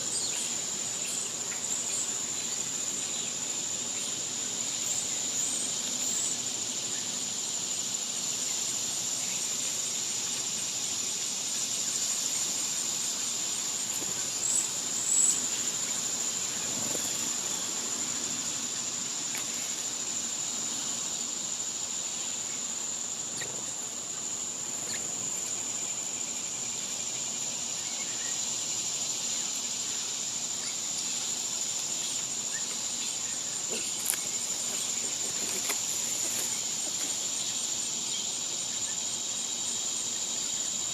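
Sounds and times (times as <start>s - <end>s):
cicadas droning: 0.0s - 40.9s.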